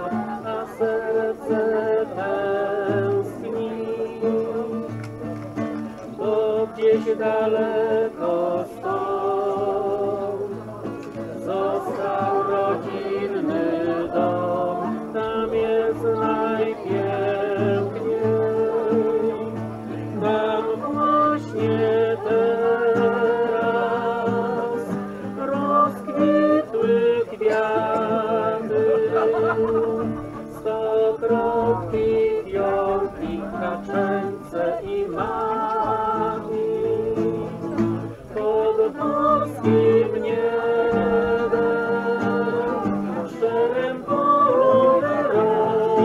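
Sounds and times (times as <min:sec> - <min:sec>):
person singing: 0:00.0 - 0:05.0, 0:06.0 - 0:46.0.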